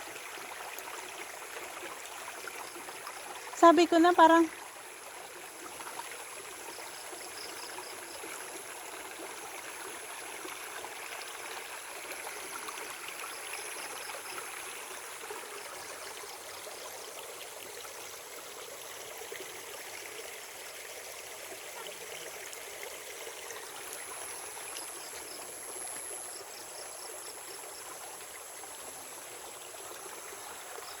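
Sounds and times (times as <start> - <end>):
stream trickling and gurgling: 0.0 - 31.0.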